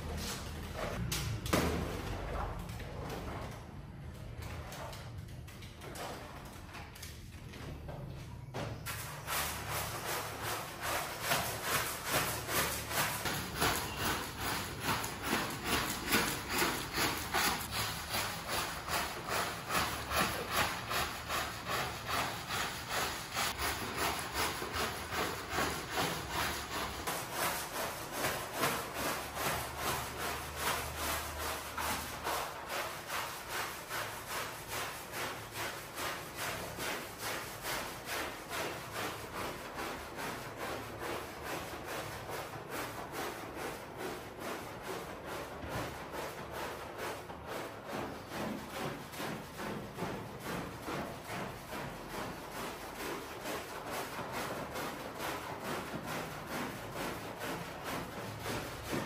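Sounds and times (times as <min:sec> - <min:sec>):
cleaning tool scraping rug: 0:08.5 - 0:59.0.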